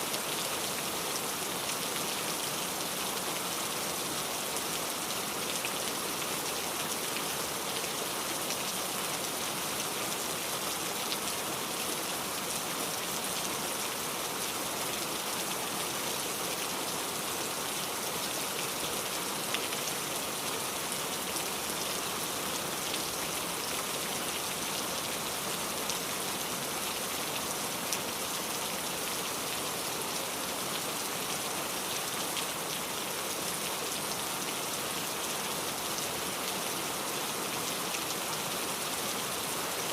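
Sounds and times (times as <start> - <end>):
rain pattering on surface: 0.1 - 39.9.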